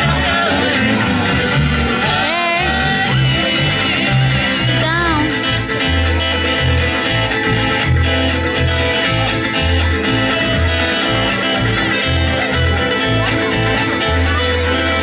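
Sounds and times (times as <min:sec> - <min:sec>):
pulsing bass line: 0:00.0 - 0:15.0
sliding guitar notes: 0:00.0 - 0:15.0
strummed acoustic guitars: 0:00.0 - 0:15.0.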